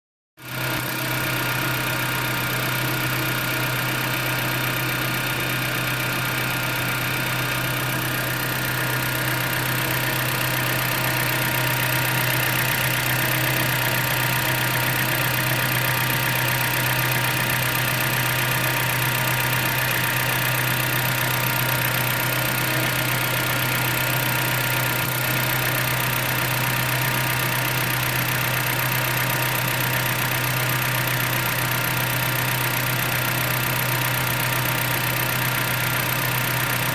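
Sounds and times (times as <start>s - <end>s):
car engine idling: 0.5s - 36.9s
engine ticking: 0.5s - 36.9s.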